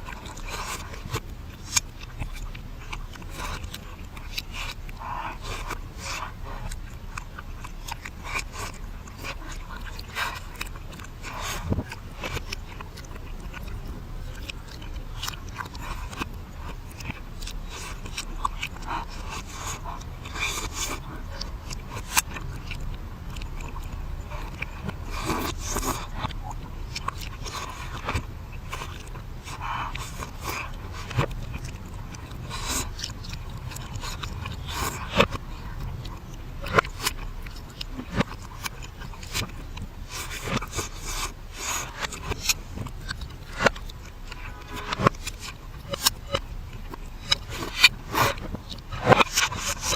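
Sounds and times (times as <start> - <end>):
wet chewing and crunching: 0.0 - 49.9.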